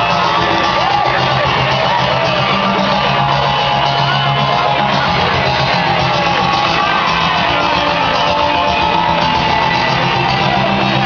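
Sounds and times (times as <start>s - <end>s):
distorted electric guitar: 0.0s - 11.0s.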